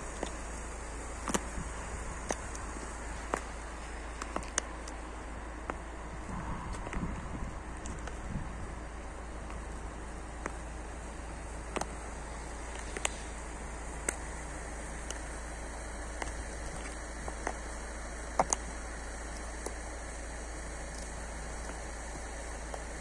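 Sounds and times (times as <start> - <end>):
heels clicking on asphalt: 0.0 - 23.0
outdoor hiss: 0.0 - 23.0.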